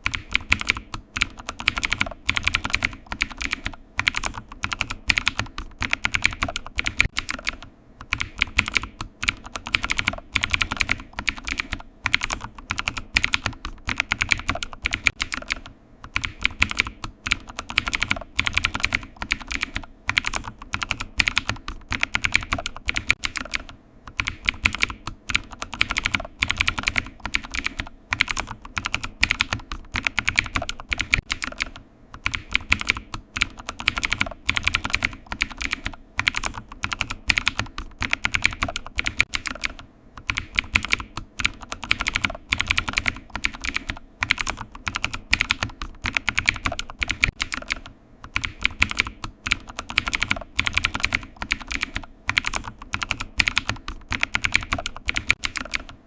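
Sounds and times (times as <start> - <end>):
typing on computer keyboard: 0.0 - 56.0.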